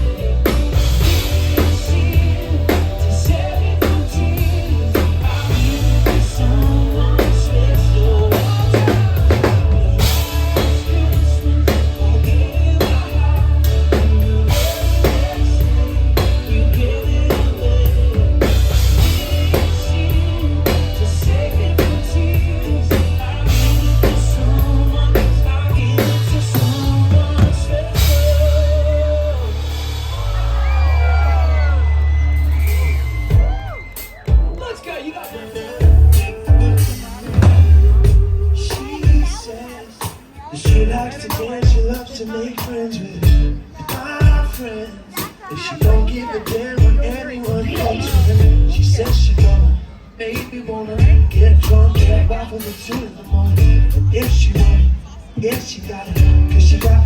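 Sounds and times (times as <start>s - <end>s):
person singing: 0.0s - 30.1s, 30.7s - 57.0s
heavy bass: 0.0s - 34.6s, 35.8s - 39.6s, 45.8s - 57.0s
drum kit beat: 0.0s - 57.0s
live band music: 0.0s - 57.0s.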